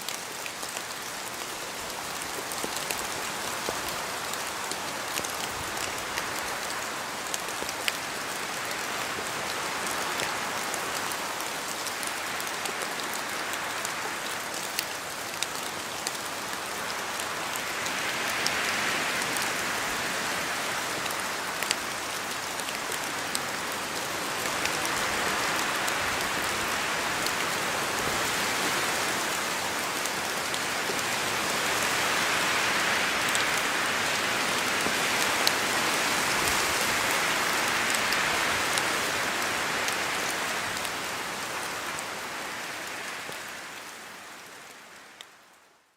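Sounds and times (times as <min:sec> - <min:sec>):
rain hissing on leaves: 0:00.0 - 0:45.9.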